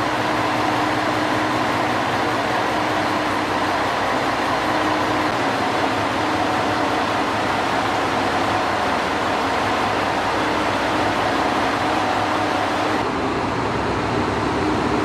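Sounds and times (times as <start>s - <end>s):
train rumbling in motion: 0.0s - 15.0s.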